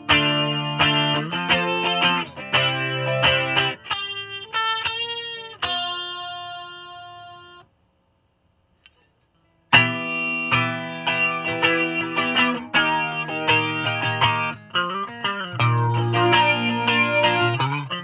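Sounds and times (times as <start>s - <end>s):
electric guitar single notes: 0.0s - 7.6s, 9.7s - 18.0s.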